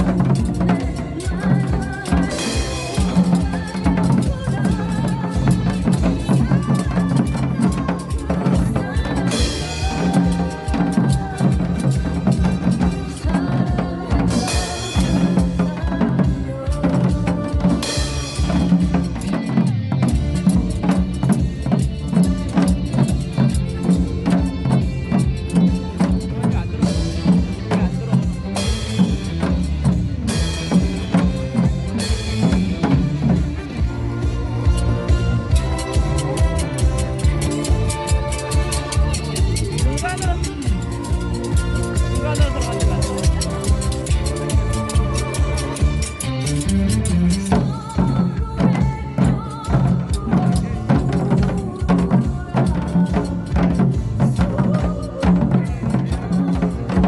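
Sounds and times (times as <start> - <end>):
backing track music: 0.0 - 57.0
hourglass drum playing: 0.0 - 57.0.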